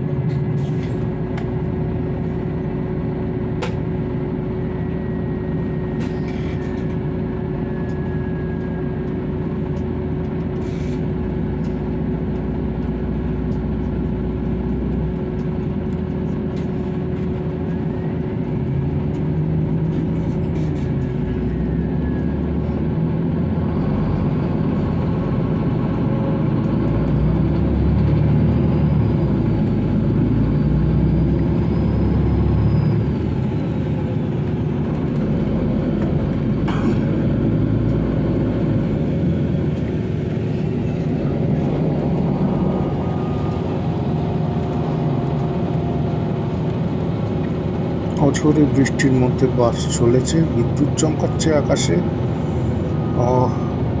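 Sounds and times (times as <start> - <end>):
bus engine rumble: 0.0 - 54.0
road noise on wet road: 0.0 - 54.0.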